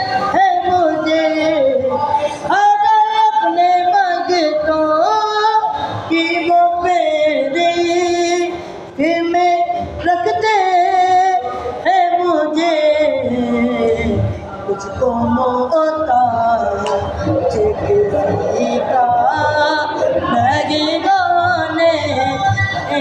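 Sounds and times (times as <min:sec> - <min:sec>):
high voice singing: 0:00.0 - 0:23.0.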